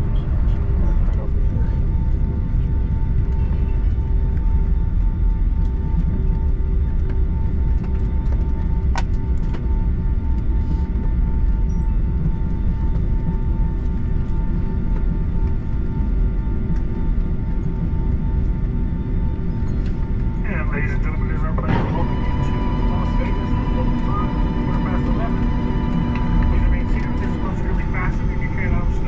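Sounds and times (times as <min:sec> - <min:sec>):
constant hum: 0:00.0 - 0:29.0
jet engines low rumble: 0:00.0 - 0:29.0.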